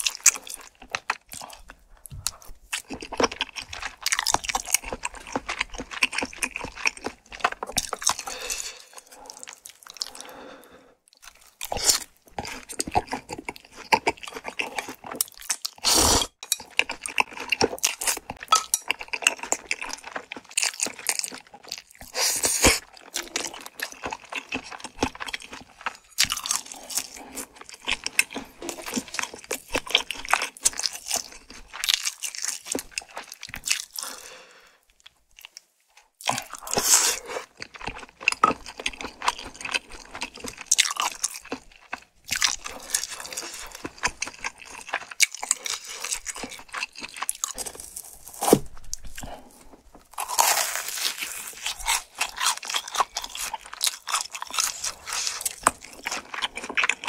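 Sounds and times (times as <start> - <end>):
wet chewing: 0.0 - 10.4, 11.1 - 34.4, 35.0 - 57.0.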